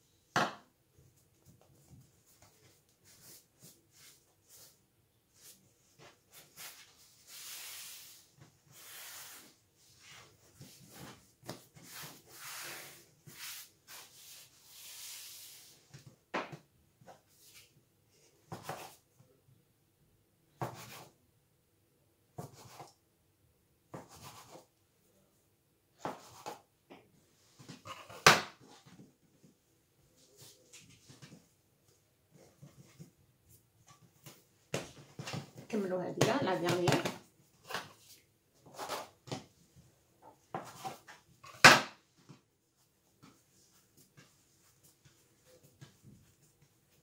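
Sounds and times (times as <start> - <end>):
hands rolling dough on countertop: 0.4 - 17.8, 18.4 - 19.4, 25.9 - 47.0.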